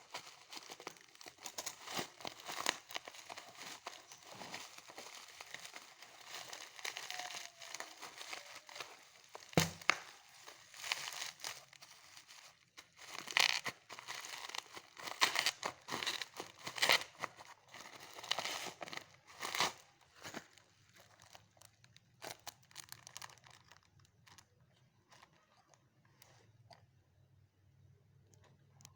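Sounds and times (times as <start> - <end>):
plastic packaging crinkling and tearing: 0.0 - 26.3.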